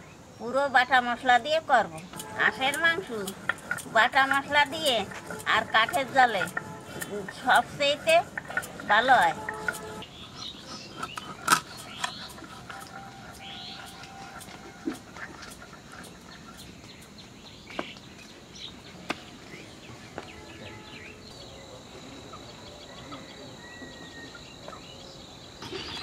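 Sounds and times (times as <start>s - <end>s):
high insect drone: 1.4s - 26.0s
bird chirps: 2.0s - 26.0s.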